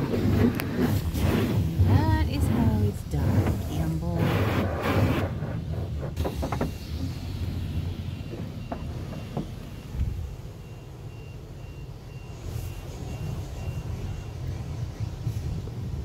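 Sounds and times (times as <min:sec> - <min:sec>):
car rumble: 0:00.0 - 0:16.0.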